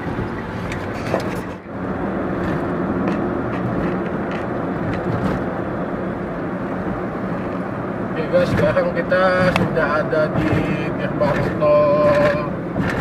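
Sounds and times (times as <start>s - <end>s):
vehicle running noise: 0.0s - 13.0s.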